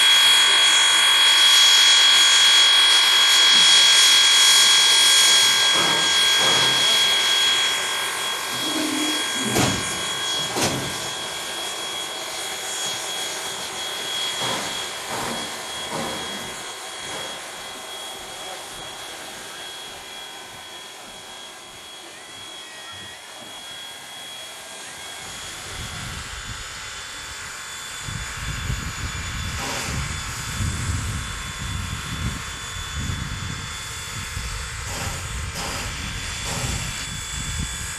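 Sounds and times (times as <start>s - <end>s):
high whine: 0.0s - 37.9s
steam train running: 0.0s - 37.9s.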